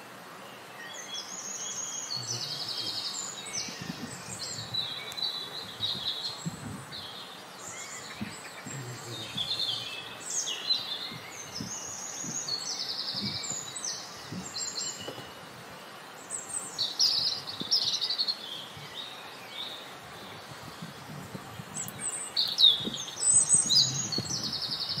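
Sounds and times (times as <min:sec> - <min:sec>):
songbirds chirping and trilling: 0:00.0 - 0:25.0.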